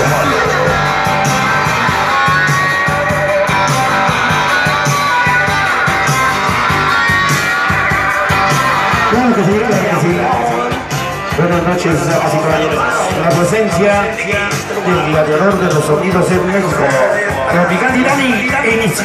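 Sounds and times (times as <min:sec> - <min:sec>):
loud dance music with guitar: 0:00.0 - 0:19.0.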